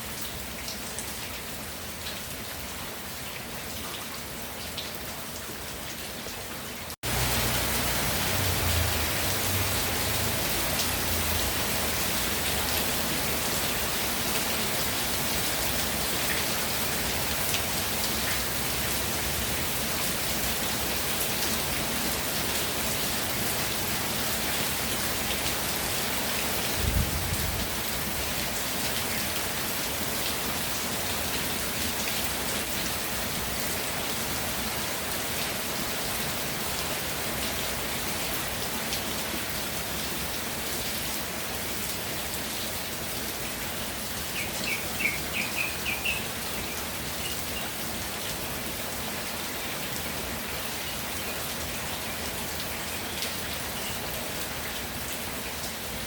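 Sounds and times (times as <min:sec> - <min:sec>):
rain pattering on ground: 0:00.0 - 0:56.0.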